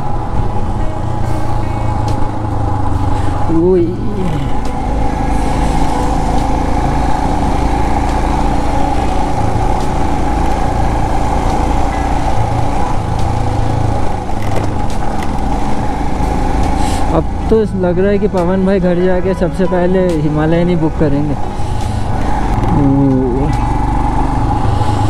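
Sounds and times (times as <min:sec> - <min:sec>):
motorcycle engine drone: 0:00.0 - 0:25.0
road noise: 0:00.0 - 0:25.0.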